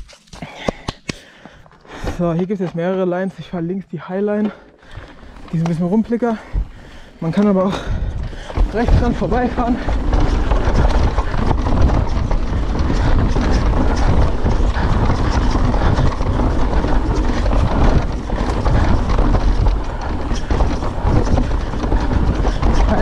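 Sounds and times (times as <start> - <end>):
bike knocking and clattering: 0.0 - 23.0
tyres rolling over dirt: 4.2 - 23.0.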